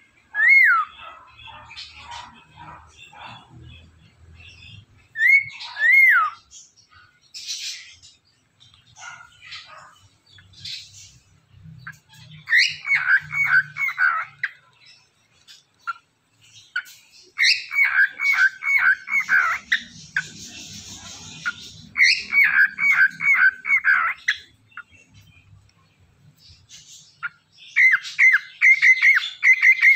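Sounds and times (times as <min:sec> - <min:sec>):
bird chirps and chatter: 0:00.0 - 0:29.9.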